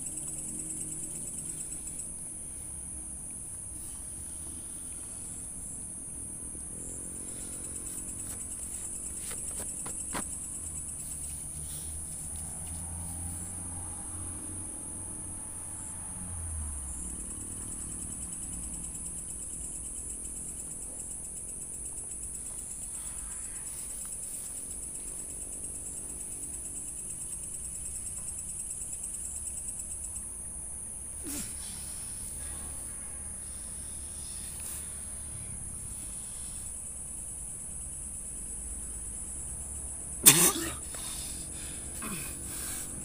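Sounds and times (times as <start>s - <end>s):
crickets chirring: 0.0s - 43.0s.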